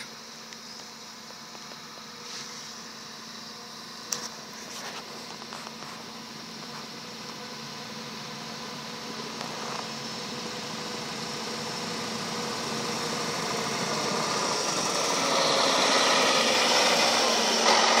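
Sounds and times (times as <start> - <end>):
snow groomer diesel engine: 0.0 - 18.0.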